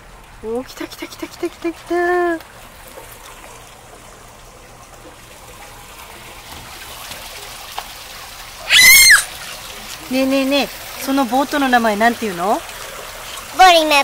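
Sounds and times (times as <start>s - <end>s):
water trickling along concrete: 0.0s - 14.0s.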